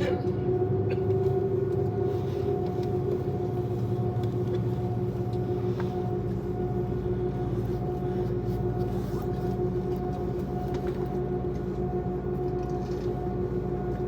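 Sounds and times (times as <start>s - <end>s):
airliner engine drone: 0.0s - 14.0s.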